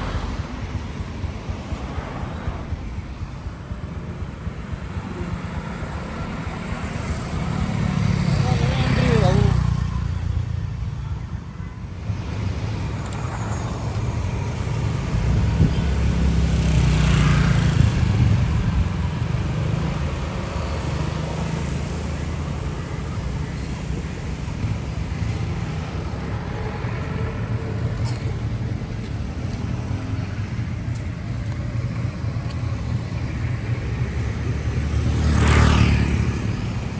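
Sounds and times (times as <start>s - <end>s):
motor vehicle and road noise: 0.0s - 36.9s.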